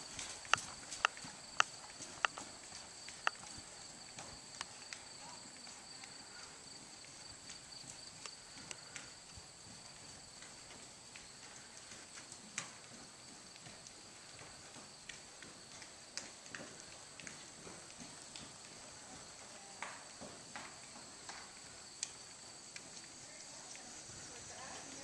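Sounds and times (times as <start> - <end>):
horse hoofbeats on sand: 0.0 - 25.0.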